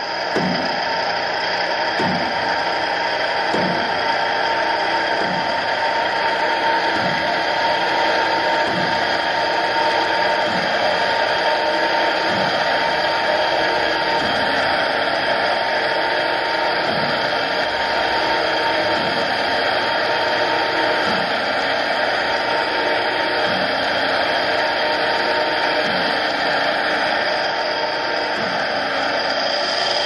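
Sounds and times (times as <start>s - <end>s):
knife grinder machine whirring: 0.0s - 30.0s.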